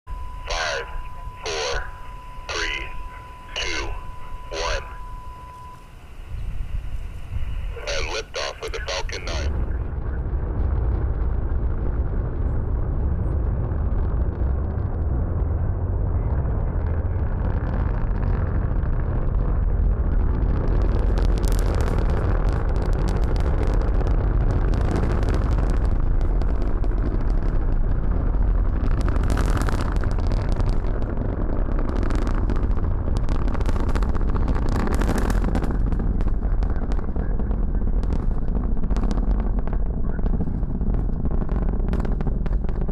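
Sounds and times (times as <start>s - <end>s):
rocket engine rumble: 0.1s - 42.9s
sharp crackling: 0.1s - 42.9s.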